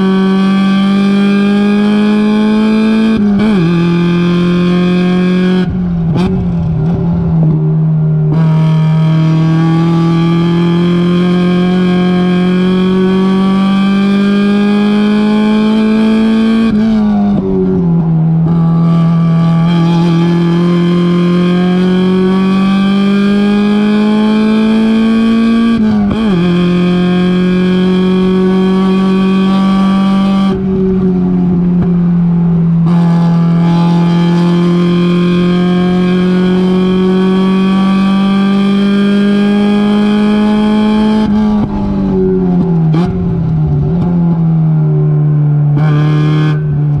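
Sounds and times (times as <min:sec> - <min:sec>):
race car engine accelerating: 0:00.0 - 0:47.0
throttle blips on downshifts: 0:00.0 - 0:47.0.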